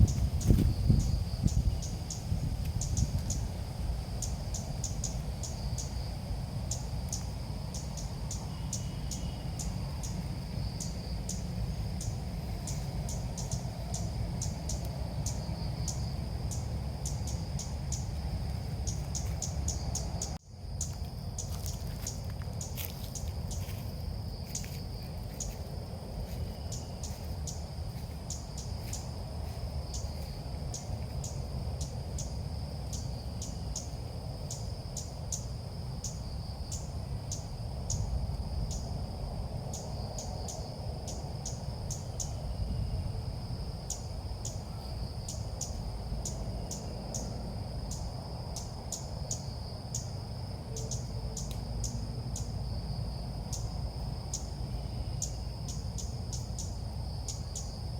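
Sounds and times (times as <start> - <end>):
insects chirring: 0.0 - 57.9
low background rumble: 0.0 - 57.9.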